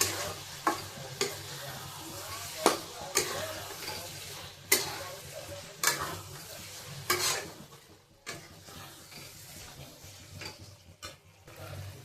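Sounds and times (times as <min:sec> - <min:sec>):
faint frying sizzle: 0:00.0 - 0:12.0.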